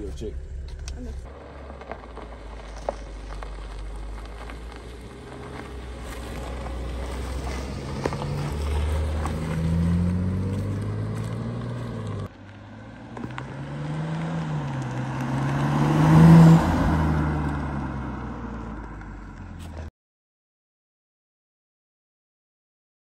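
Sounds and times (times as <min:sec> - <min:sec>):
car accelerating past: 0:00.0 - 0:19.9.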